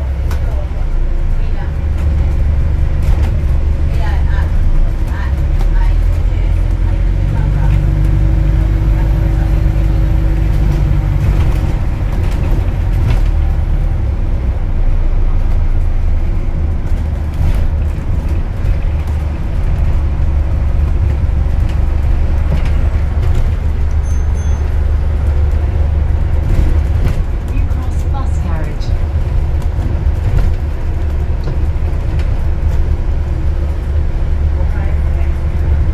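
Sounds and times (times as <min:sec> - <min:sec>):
bus drivetrain drone: 0:00.0 - 0:35.9
road noise: 0:00.0 - 0:35.9.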